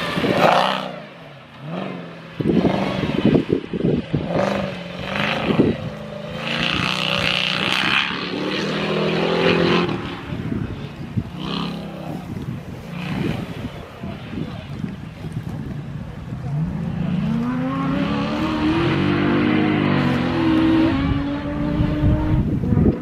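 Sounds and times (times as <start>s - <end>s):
off-road vehicle engine revving: 0.0s - 14.6s, 16.2s - 23.0s.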